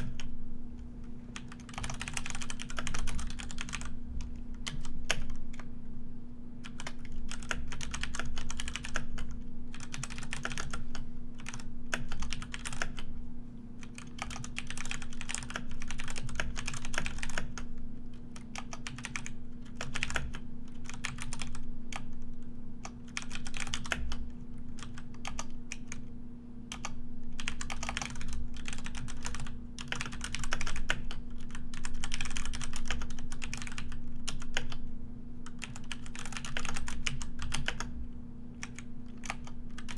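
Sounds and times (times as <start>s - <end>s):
steady low hum: 0.0s - 39.9s
keyboard typing: 1.4s - 5.6s, 6.6s - 13.1s, 13.8s - 17.7s, 18.3s - 22.2s, 22.8s - 26.0s, 26.7s - 34.8s, 35.4s - 37.9s, 38.6s - 39.9s.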